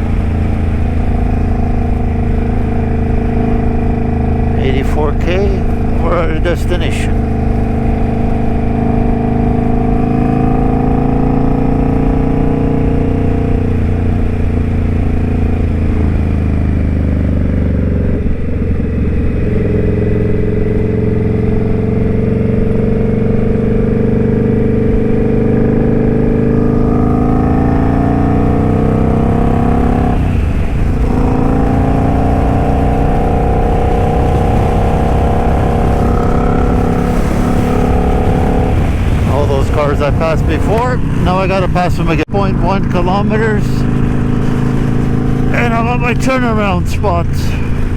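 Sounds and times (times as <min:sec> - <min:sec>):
motorcycle engine at road speed: 0:00.0 - 0:47.9.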